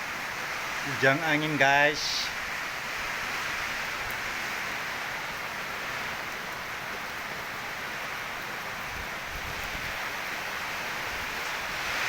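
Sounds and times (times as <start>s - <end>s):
heavy rain falling: 0.0s - 12.0s
wind: 0.0s - 12.0s.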